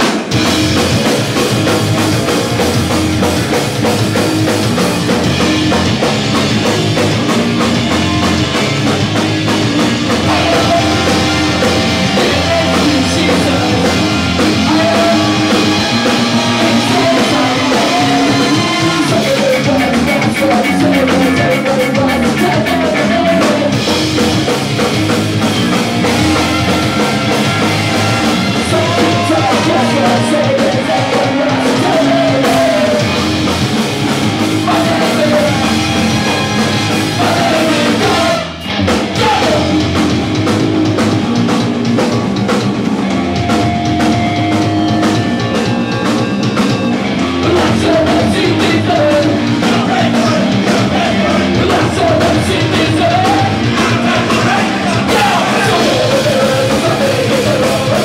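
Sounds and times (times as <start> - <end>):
ska-punk band playing live: 0.0 - 58.0
lead vocal singing: 3.5 - 42.0, 45.4 - 58.0.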